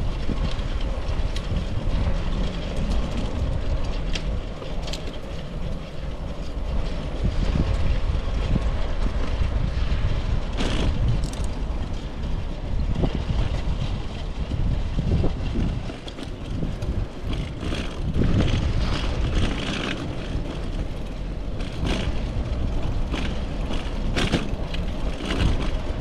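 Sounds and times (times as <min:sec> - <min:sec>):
bicycle tyres on pavement: 0:00.0 - 0:26.0
wind on microphone: 0:00.0 - 0:26.0.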